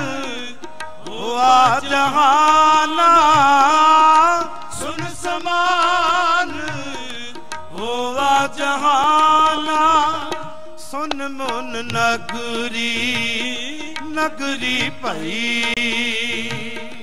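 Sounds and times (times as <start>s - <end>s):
devotional hymn singing: 0.0s - 17.0s
harmonium tone: 0.0s - 17.0s
tabla: 0.0s - 17.0s.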